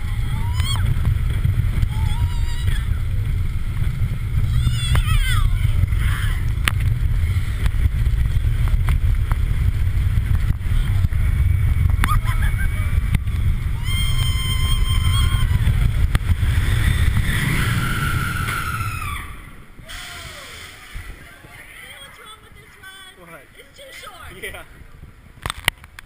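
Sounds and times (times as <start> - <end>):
roller coaster train rumble: 0.0 - 23.2
wind buffeting microphone: 0.0 - 26.0.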